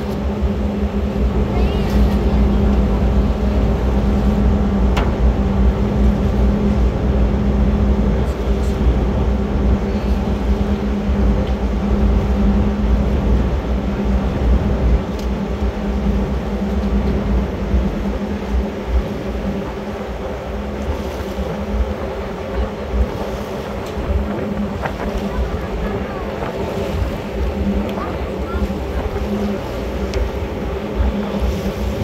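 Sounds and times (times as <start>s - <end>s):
boat diesel engine rumbling: 0.0s - 32.0s.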